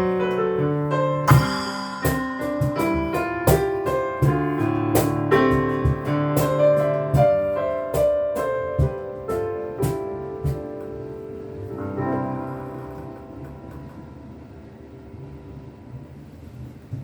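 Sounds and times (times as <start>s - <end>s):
slow piano notes and chords: 0.0s - 17.0s.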